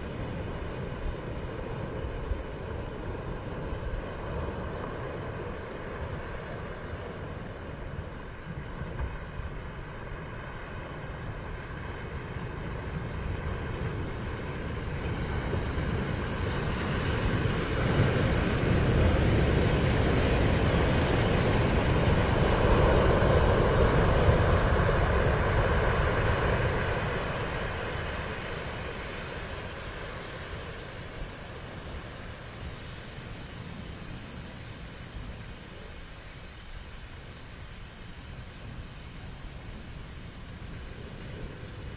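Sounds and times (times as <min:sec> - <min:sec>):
waves breaking on beach: 0:00.0 - 0:41.9.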